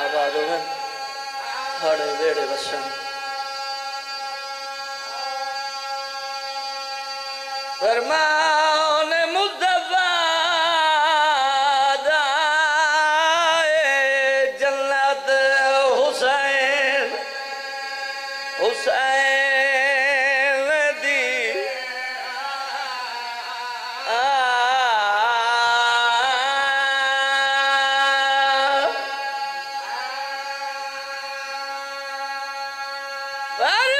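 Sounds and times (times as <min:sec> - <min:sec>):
man singing with vibrato: 0:00.0 - 0:33.9.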